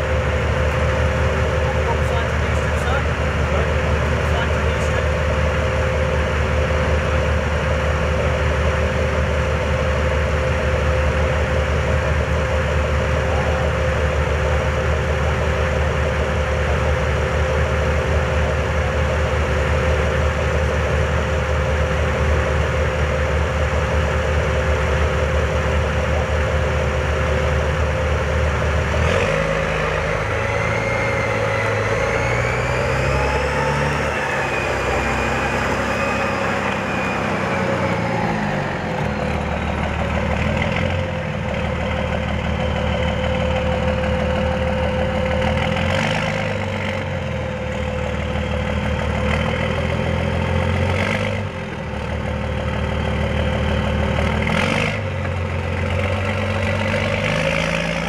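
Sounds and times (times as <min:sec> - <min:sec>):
high whine: 0:00.0 - 0:51.0
tracked vehicle engine running: 0:00.0 - 0:58.0.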